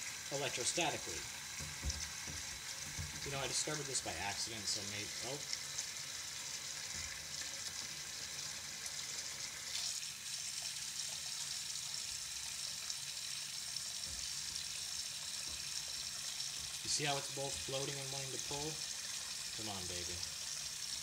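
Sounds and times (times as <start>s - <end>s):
water running into metal sink: 0.0s - 21.0s.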